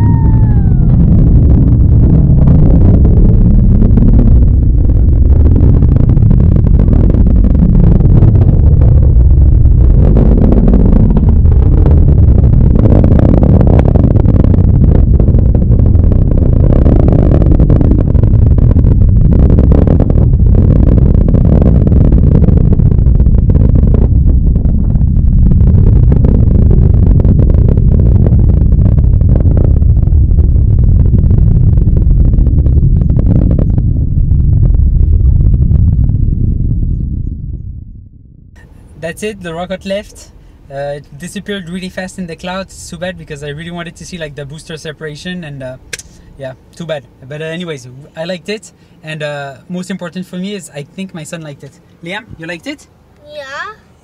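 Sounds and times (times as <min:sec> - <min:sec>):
rocket crackle: 0:00.0 - 0:46.4
rocket roar rumble: 0:00.0 - 0:53.7.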